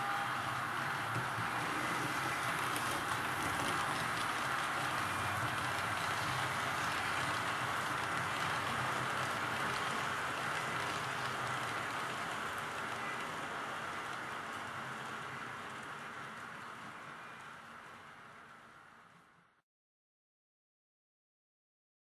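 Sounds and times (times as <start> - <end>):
model train wheels rattling on rails: 0.0 - 19.2.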